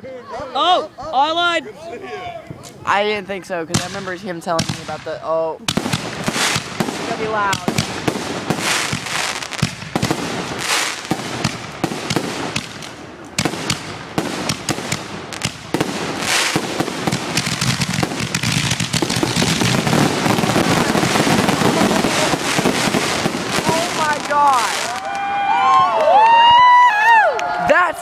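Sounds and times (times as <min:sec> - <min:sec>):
fireworks exploding and crackling: 0:03.7 - 0:26.9.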